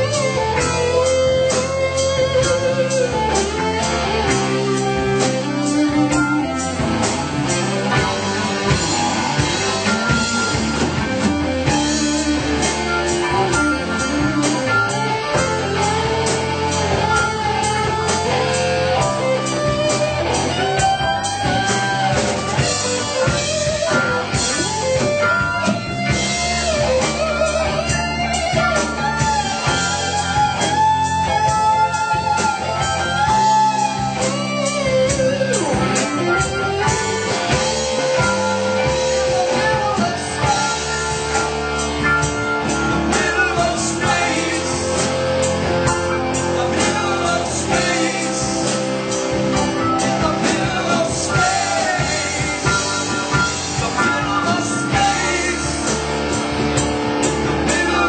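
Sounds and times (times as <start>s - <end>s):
electric guitar lead: 0.0s - 58.0s
live rock band playing: 0.0s - 58.0s.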